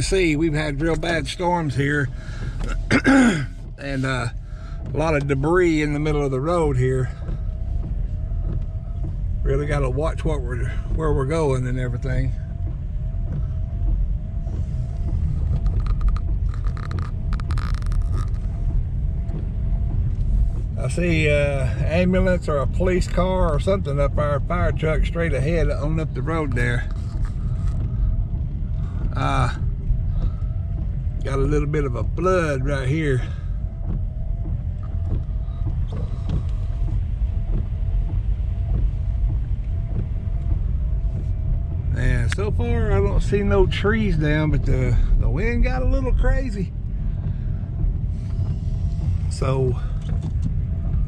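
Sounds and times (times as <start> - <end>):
car engine and tyres rumbling: 0.0 - 51.0
water hissing under wheels: 0.0 - 51.0.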